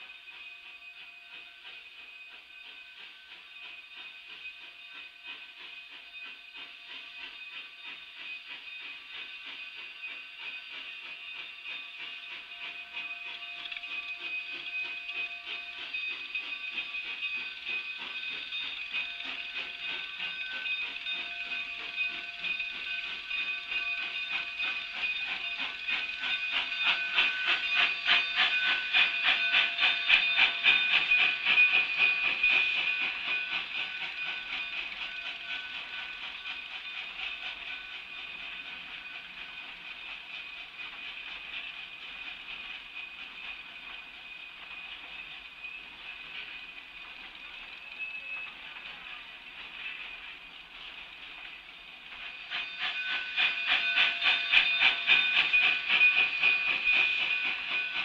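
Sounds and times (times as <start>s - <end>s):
steady high squeal: 0.0s - 50.3s
steam hissing: 0.0s - 58.0s
train clattering by: 0.0s - 58.0s.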